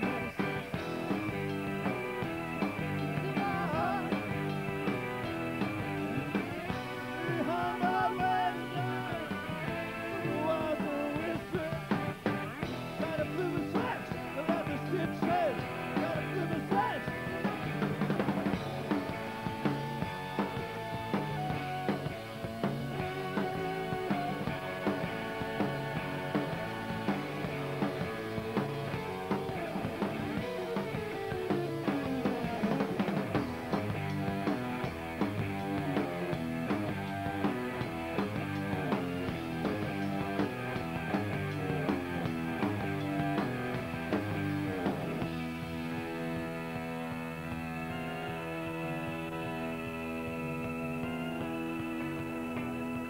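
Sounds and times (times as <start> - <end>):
steady drum beat: 0.0 - 52.3
electric guitar bending lead notes: 0.0 - 53.0
rock band playing: 0.0 - 53.0.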